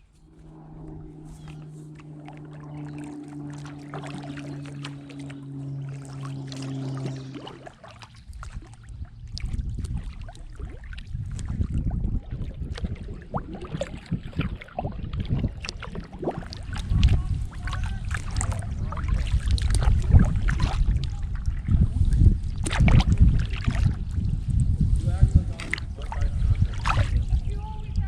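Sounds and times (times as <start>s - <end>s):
paddle splashing and dripping: 0.0s - 24.8s, 25.5s - 27.6s
wind buffeting microphone: 0.0s - 28.0s.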